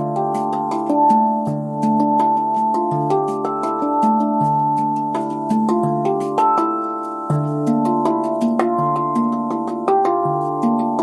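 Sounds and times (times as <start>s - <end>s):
handpan melody: 0.0s - 11.0s.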